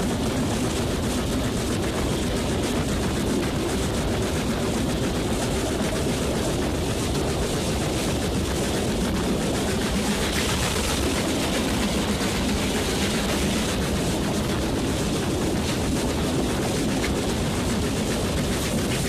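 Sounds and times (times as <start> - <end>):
train rushing noise: 0.0 - 19.0.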